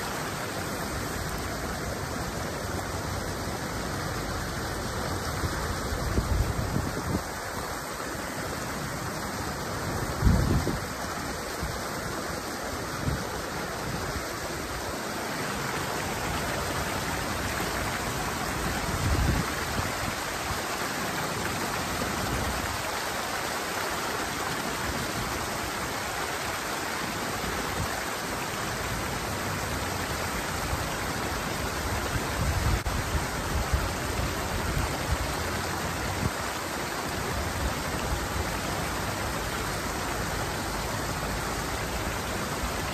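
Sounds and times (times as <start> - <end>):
water rushing over weir: 0.0 - 42.9.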